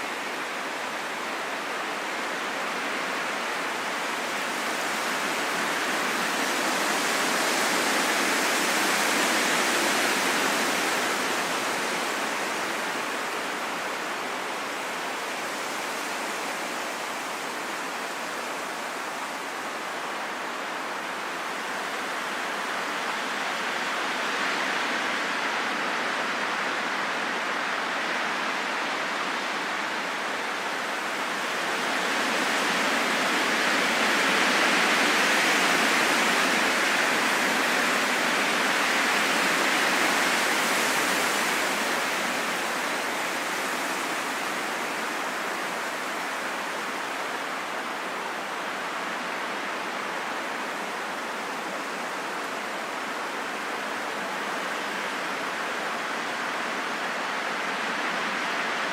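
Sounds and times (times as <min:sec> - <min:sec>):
rain falling in forest: 0:00.0 - 0:58.9.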